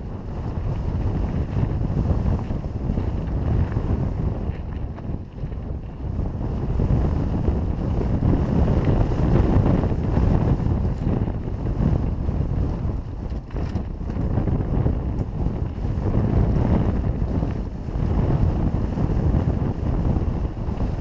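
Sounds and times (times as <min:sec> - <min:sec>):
dirt bike engine running: 0:00.0 - 0:21.0
wind buffeting microphone: 0:00.0 - 0:21.0.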